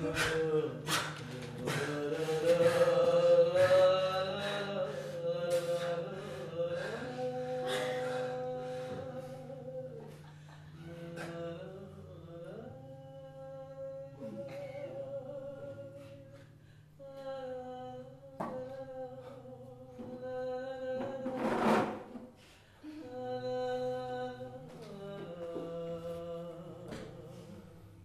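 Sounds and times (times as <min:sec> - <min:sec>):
person humming: 0:00.0 - 0:22.2, 0:22.8 - 0:28.0.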